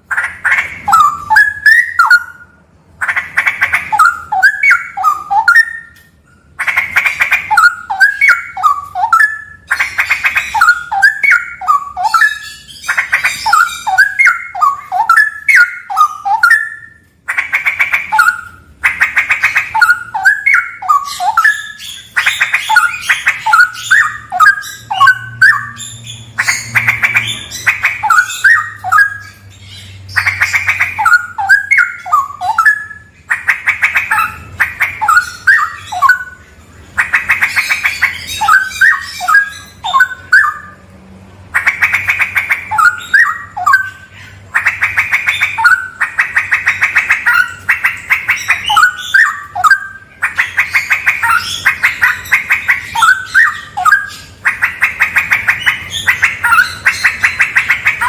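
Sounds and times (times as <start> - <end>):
bird singing trills and whistles: 0.0 - 40.8, 41.6 - 58.0.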